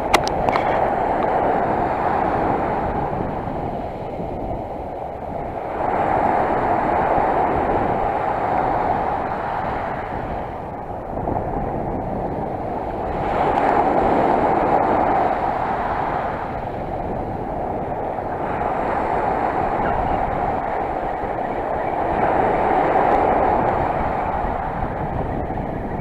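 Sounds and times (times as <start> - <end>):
sea surf washing on shore: 0.0 - 26.0.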